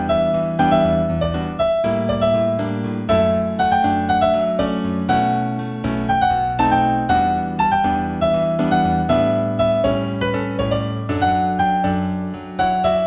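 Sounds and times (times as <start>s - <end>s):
slow new-age keyboard piece: 0.0s - 13.0s.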